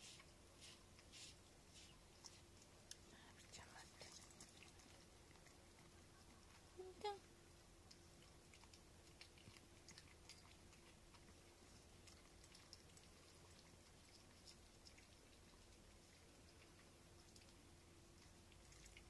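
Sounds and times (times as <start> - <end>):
cats licking wet clicks: 0.1 - 6.8, 7.5 - 19.0.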